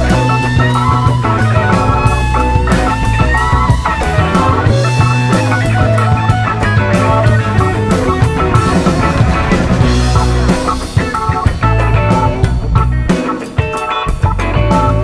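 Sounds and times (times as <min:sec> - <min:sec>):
drum kit beat: 0:00.0 - 0:15.0
electric bass: 0:00.0 - 0:15.0
electric guitars: 0:00.0 - 0:15.0
keyboard: 0:00.0 - 0:15.0.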